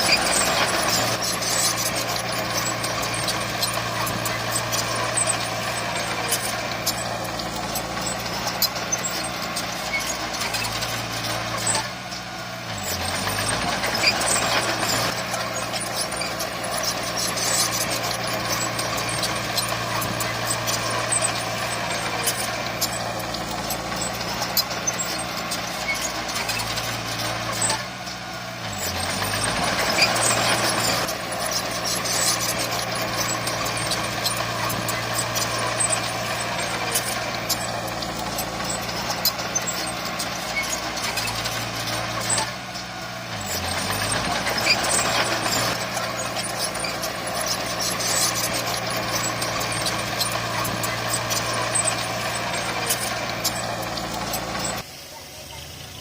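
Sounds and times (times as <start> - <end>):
sharp clicks and knocks: 0.0 - 28.2, 28.8 - 54.8
diesel bulldozer engine running: 0.0 - 56.0.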